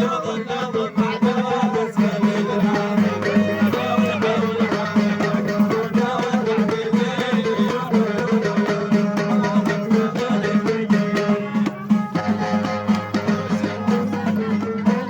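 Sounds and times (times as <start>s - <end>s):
plucked string instruments: 0.0s - 15.0s.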